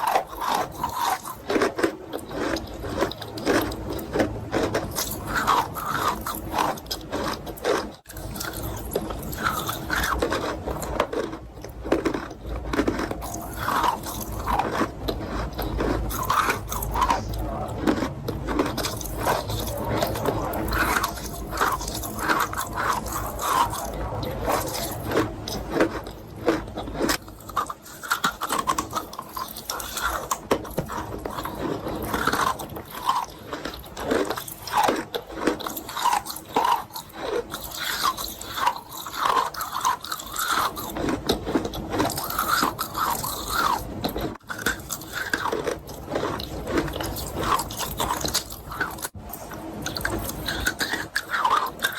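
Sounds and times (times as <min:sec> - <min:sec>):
chewing crunches: 0:00.0 - 0:51.9.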